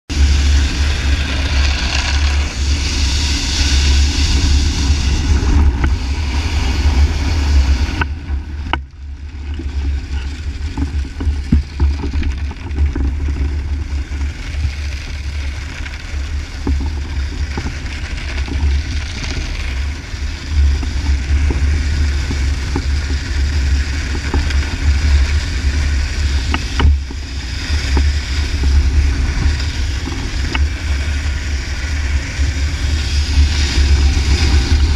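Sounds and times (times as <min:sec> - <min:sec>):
snowboard sliding across ice: 0:00.1 - 0:34.9
wind buffeting microphone: 0:00.1 - 0:34.9.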